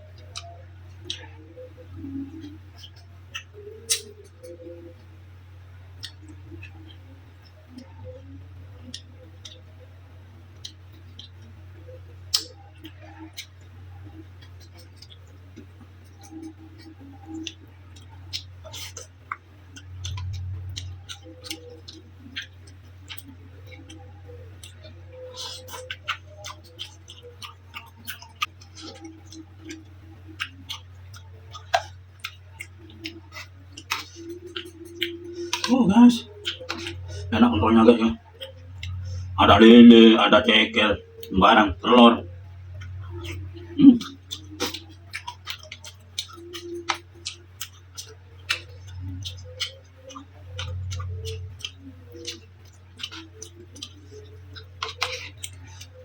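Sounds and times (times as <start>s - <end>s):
chewing: 0.0s - 5.1s, 5.8s - 56.0s
steady low hum: 0.0s - 56.0s
mouth clicks and lip smacks: 0.1s - 5.1s, 5.9s - 9.7s, 10.5s - 39.5s, 41.0s - 56.0s.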